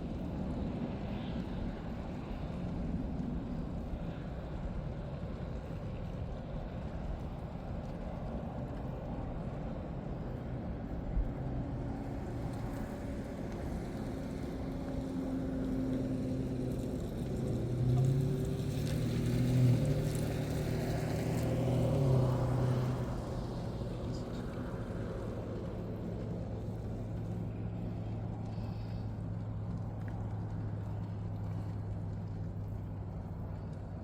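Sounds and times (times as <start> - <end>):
road and wind noise: 0.0 - 34.0
vehicle engine hum: 0.0 - 34.0.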